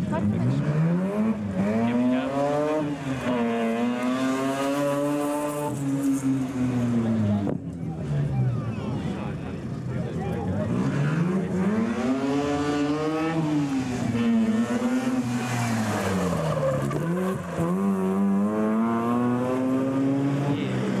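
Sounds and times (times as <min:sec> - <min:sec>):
rotary engine revving hard: 0:00.0 - 0:08.3, 0:10.4 - 0:21.0.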